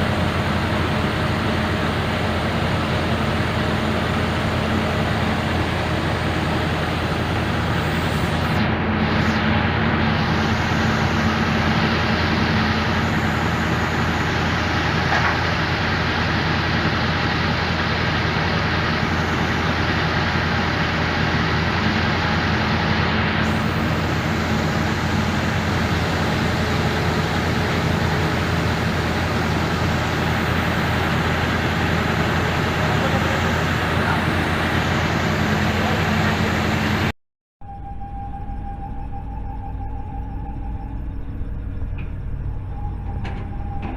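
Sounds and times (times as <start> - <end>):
engine running under load: 0.0 - 43.9.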